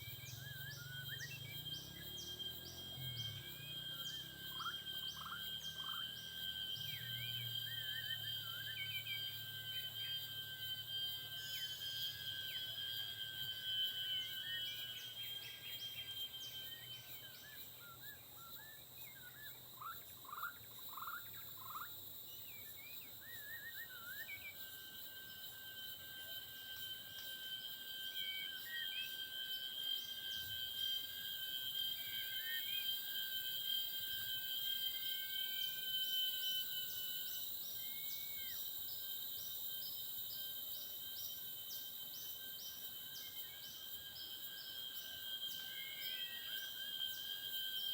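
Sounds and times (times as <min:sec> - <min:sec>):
insects droning: 0:00.0 - 0:47.9
pulsing insect chirp: 0:00.0 - 0:47.9.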